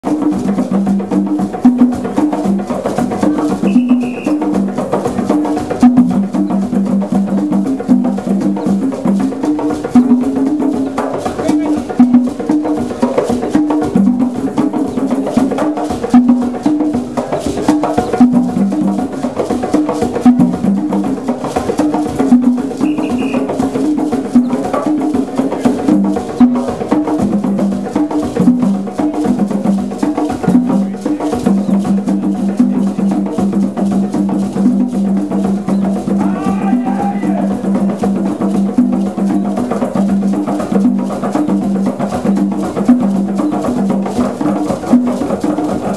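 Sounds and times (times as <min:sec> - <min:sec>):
hand drumming: 0:00.0 - 0:45.9.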